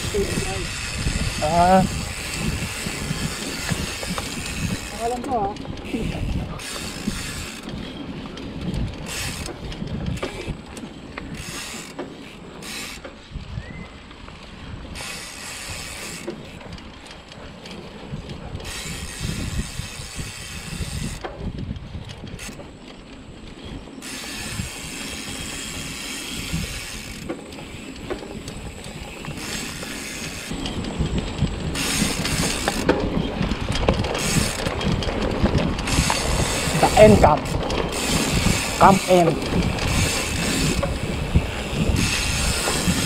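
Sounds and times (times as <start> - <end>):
bike freewheel ratchet buzzing: 0.0 - 13.2, 14.9 - 17.0, 18.5 - 21.3, 22.2 - 22.6, 24.0 - 43.0
bike rattling over rough ground: 0.0 - 43.0.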